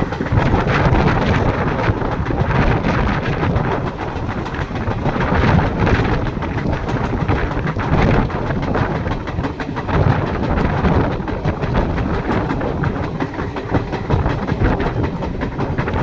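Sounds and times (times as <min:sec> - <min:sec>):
train rumbling on rails: 0:00.0 - 0:16.0
wheels clicking over track: 0:00.0 - 0:16.0.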